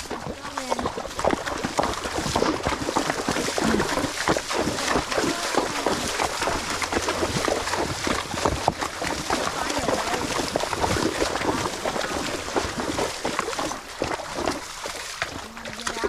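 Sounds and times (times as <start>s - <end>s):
hooves splashing through water: 0.0s - 16.0s.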